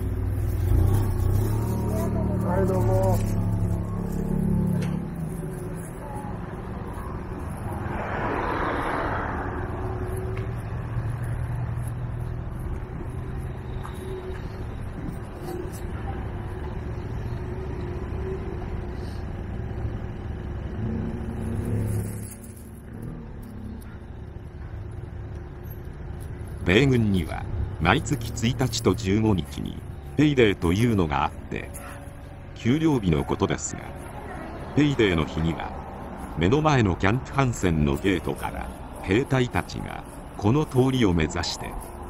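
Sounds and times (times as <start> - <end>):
cars passing rumble: 0.0 - 42.0.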